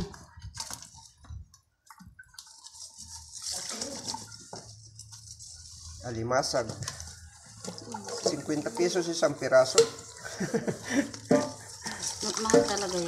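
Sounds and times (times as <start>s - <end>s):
water splashing in a basin: 0.0s - 13.0s.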